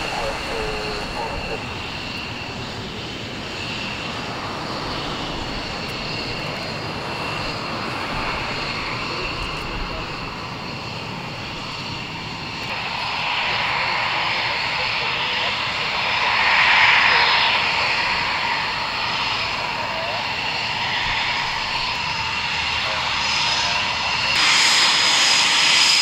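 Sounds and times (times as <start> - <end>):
jet engines hissing and whining: 0.0 - 26.0.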